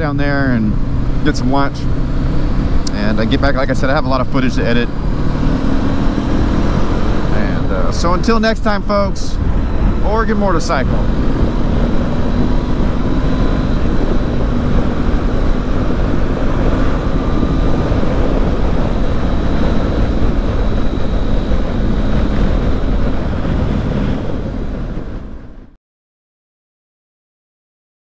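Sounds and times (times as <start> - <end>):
wind rushing on microphone: 0.0 - 25.7
motorcycle engine drone: 0.0 - 25.8.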